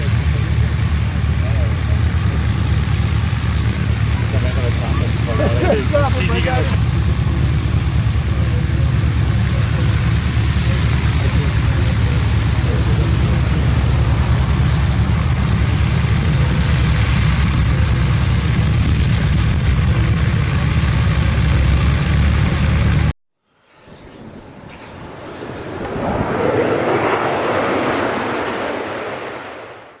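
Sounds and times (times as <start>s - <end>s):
loud low rumble: 0.0s - 29.8s
light aircraft passing: 0.0s - 29.9s.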